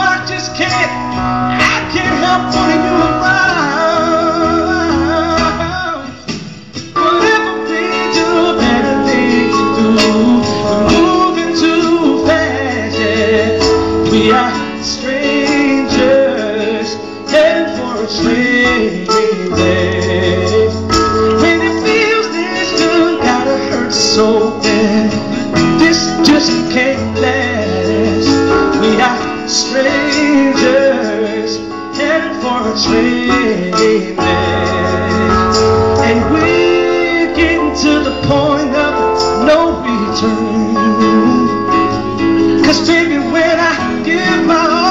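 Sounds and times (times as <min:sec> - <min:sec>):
acoustic guitar: 0:00.0 - 0:44.9
keyboard chords: 0:00.0 - 0:44.9
man singing: 0:00.0 - 0:44.9.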